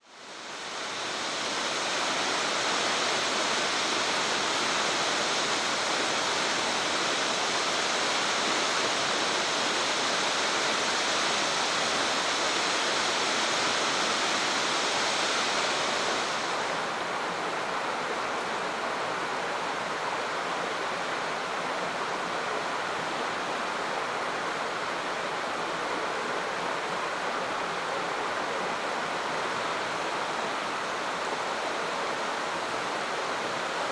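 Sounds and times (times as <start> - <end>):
fast-flowing water rushing: 0.1 - 33.9.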